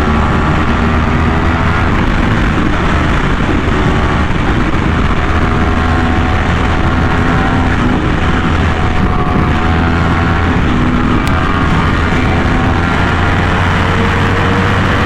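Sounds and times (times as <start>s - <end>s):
motorcycle engine at speed: 0.0s - 15.0s.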